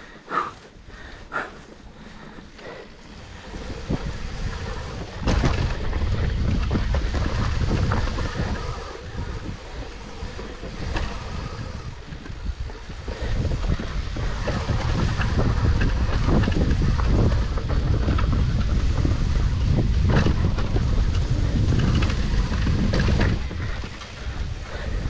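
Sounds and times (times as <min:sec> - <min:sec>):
bike clicks and rattles: 0:00.0 - 0:25.0
bike tyres rolling on dirt: 0:00.0 - 0:25.0
wind buffeting microphone: 0:00.0 - 0:25.0.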